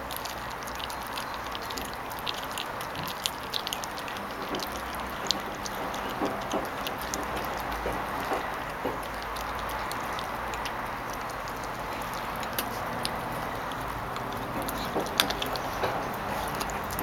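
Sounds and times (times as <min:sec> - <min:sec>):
teeth crunching on bone: 0:00.0 - 0:17.0.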